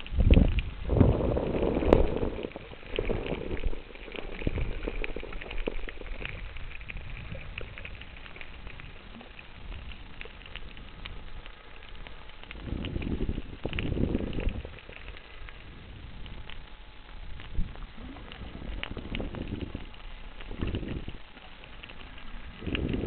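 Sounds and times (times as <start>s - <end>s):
crackle of small clicks underwater: 0.0s - 23.0s
low water rumble: 0.0s - 23.0s.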